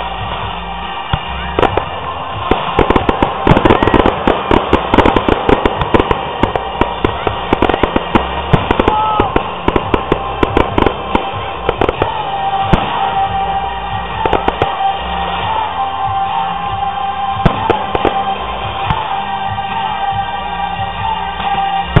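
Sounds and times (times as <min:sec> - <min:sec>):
fireworks bangs and crackling: 0:00.0 - 0:22.0
music playing: 0:00.0 - 0:22.0.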